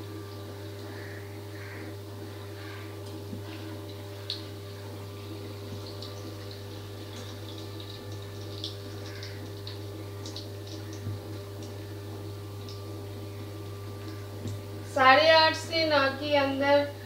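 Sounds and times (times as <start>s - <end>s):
egg deep-frying in oil: 0.0s - 14.8s.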